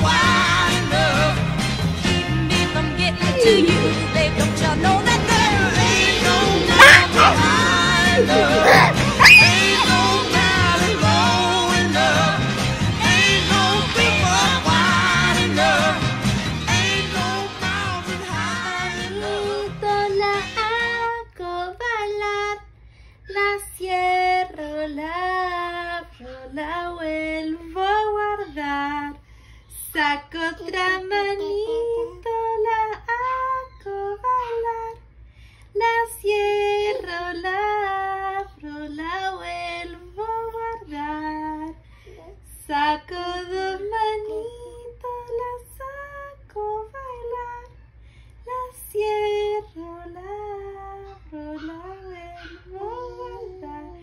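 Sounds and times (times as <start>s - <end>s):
woman singing children's song: 0.0s - 1.5s, 2.4s - 54.0s.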